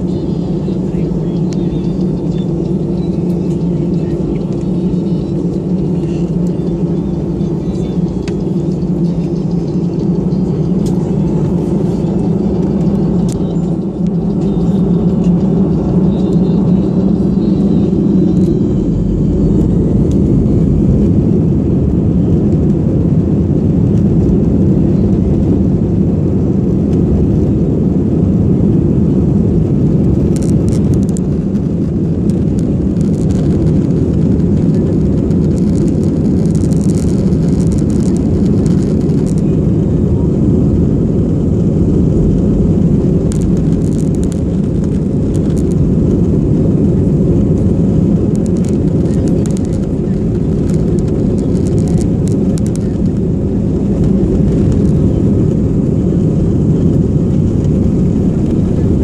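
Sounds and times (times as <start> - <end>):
jet airliner taxiing: 0.0 - 59.0.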